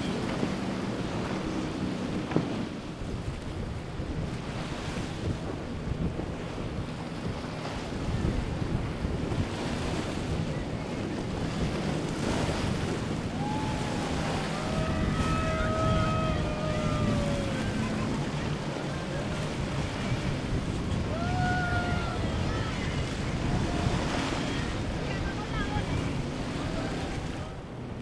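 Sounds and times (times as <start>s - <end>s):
boat engine droning: 0.0s - 28.0s
surf: 0.0s - 28.0s
wind on microphone: 0.0s - 28.0s.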